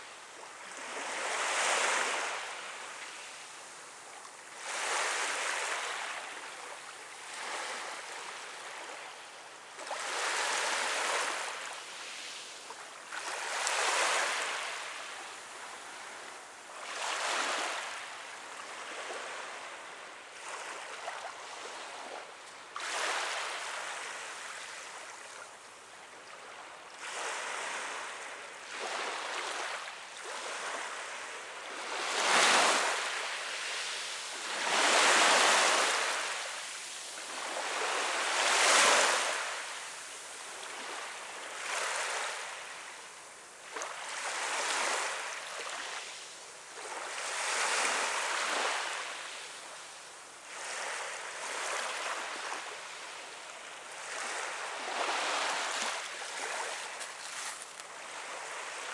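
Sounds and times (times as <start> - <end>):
small waves washing onto beach: 0.0 - 58.9.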